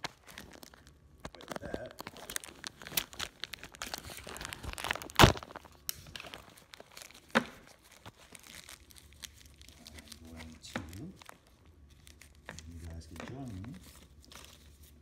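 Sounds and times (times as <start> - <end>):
packaging crinkling and clicking: 0.0 - 14.9.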